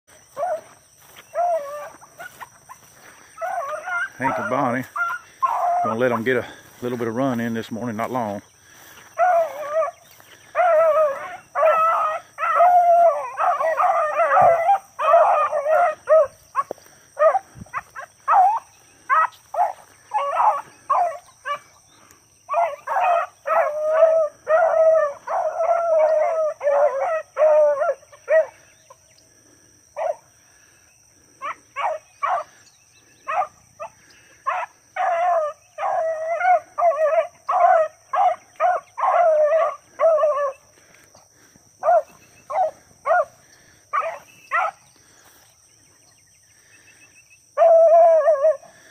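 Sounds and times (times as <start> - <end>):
high insect drone: 0.1 - 48.9
hunting dogs baying: 0.1 - 48.9.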